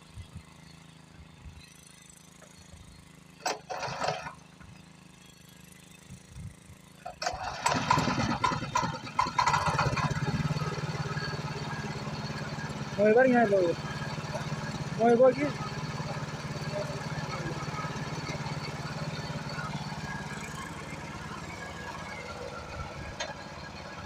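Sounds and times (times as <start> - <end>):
tractor engine starting and idling: 0.4 - 24.0.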